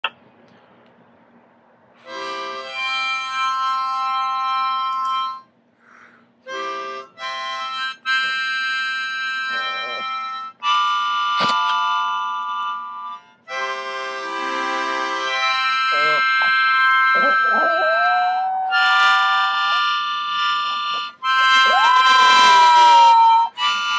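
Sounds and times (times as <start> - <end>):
harmonica playing blues: 2.0 - 5.5, 6.4 - 23.9.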